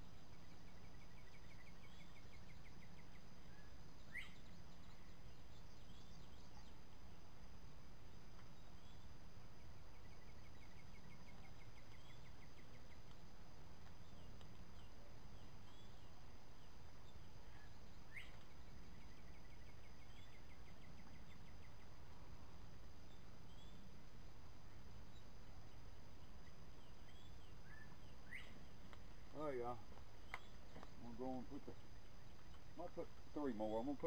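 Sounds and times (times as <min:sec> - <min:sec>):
bird chirps: 0:00.0 - 0:07.2, 0:08.0 - 0:22.3, 0:22.9 - 0:24.0, 0:24.7 - 0:34.0
insect drone: 0:00.0 - 0:34.0.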